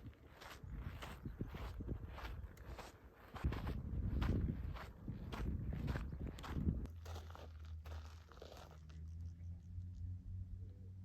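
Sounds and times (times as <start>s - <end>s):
faint footsteps: 0.0s - 9.1s.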